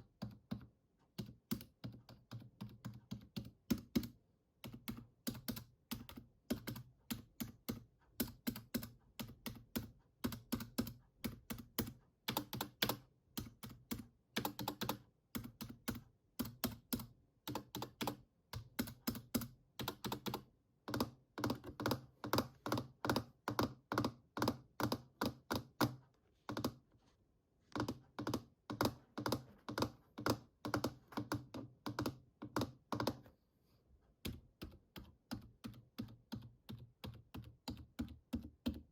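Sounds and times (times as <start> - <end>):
fingers tapping plastic keys: 0.0 - 26.9, 27.7 - 33.3, 34.2 - 38.9.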